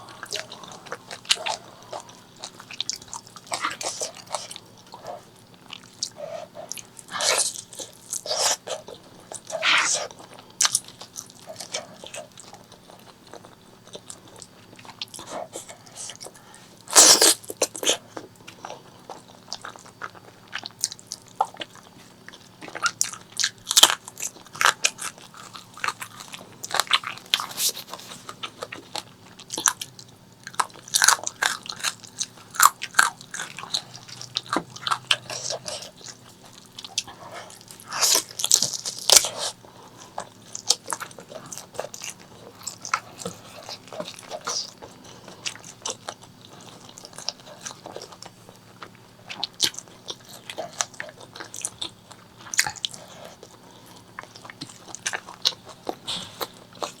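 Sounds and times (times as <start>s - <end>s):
crunchy bites: 0.0s - 57.0s
person chewing food: 0.0s - 57.0s.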